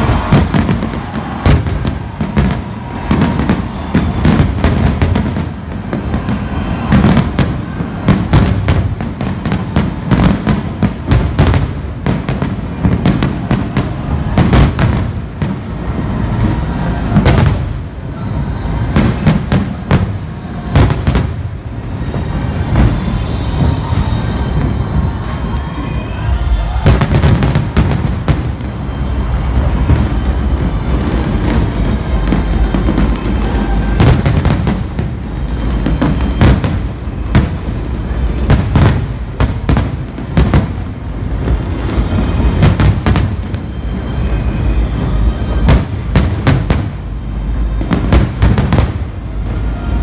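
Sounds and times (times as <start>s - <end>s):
fireworks bursts and bangs: 0.0s - 50.0s.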